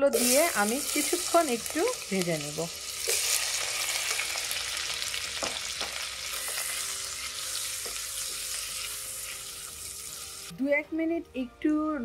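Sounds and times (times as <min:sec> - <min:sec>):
fruit sizzling in hot fat: 0:00.0 - 0:10.5.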